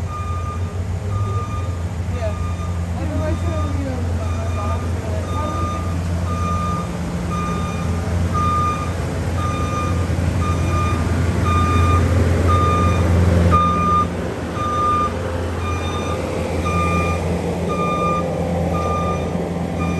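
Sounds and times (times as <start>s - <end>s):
engine low rumble: 0.0s - 19.9s
reversing alarm beeping: 0.0s - 19.9s.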